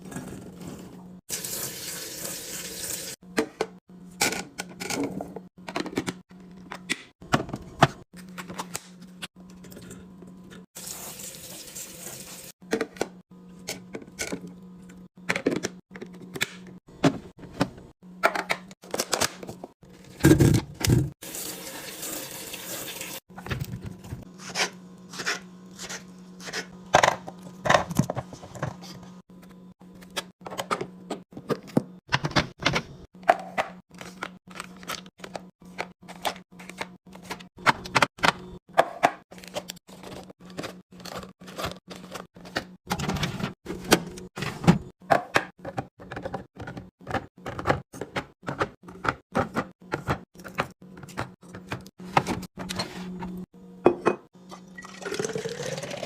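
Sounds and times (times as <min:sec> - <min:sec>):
fridge low hum: 0:00.0 - 0:56.0.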